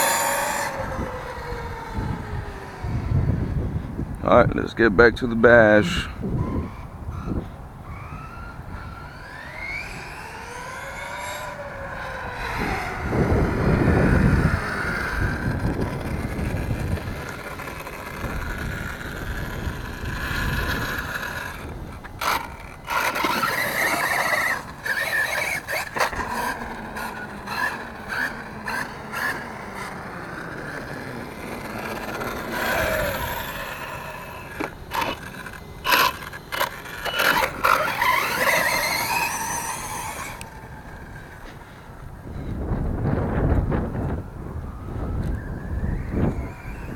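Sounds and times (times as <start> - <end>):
electric motor whining: 0.0 - 4.2, 5.6 - 46.9
tires scraping on ground: 0.0 - 46.9.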